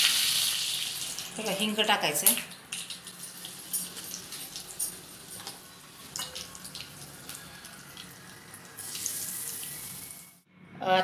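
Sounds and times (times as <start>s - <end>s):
oil sizzling: 0.0s - 10.4s.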